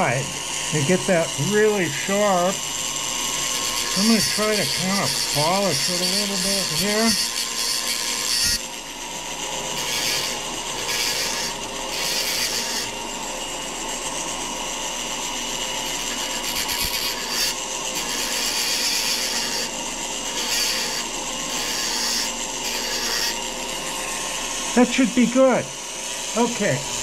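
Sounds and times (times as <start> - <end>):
rotary tool grinding steel: 0.0 - 27.0.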